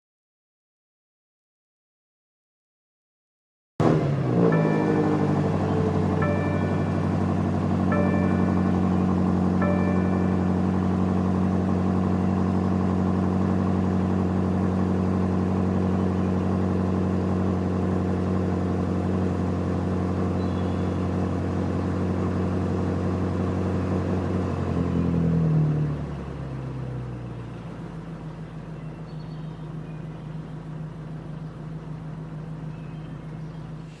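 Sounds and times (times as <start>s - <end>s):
car engine running: 3.8s - 34.0s.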